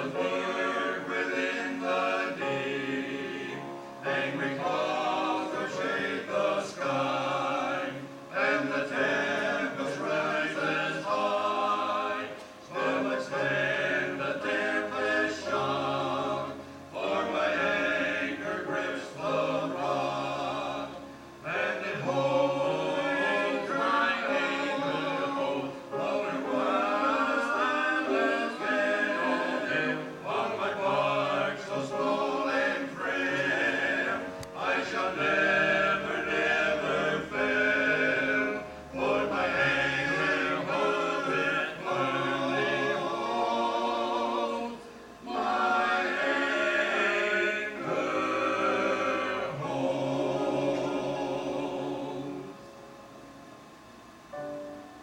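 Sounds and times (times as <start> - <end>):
choir singing: 0.0 - 52.8.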